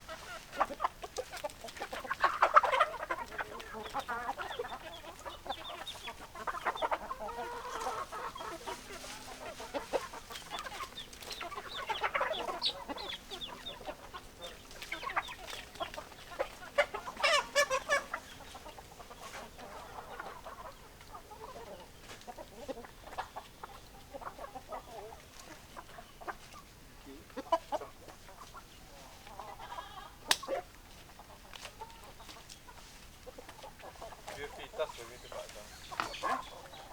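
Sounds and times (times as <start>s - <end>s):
hens clucking: 0.0s - 36.9s.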